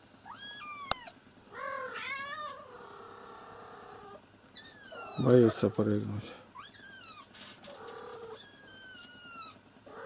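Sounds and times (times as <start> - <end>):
cats meowing: 0.2 - 10.0.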